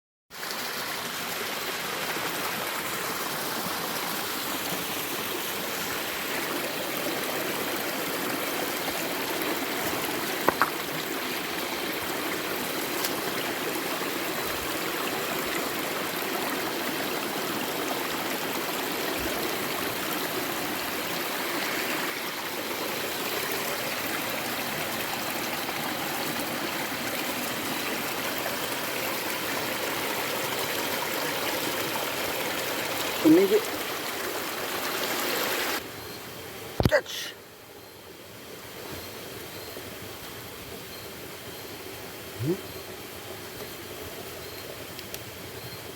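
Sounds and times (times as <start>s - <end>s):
creek water running: 0.3s - 45.9s.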